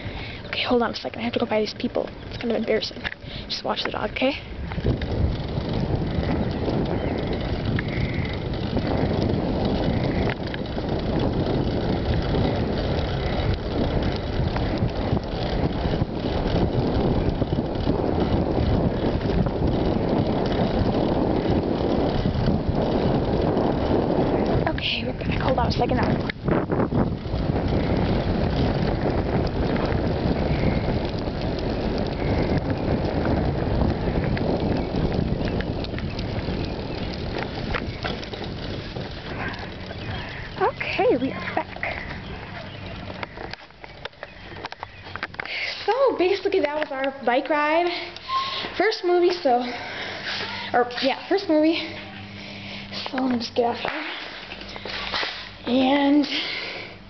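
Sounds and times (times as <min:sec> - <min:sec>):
bicycle rolling rumble: 0:00.0 - 0:57.0
wind buffeting microphone: 0:00.0 - 0:57.0
light clicks and rattles: 0:00.2 - 0:23.1, 0:24.3 - 0:56.8.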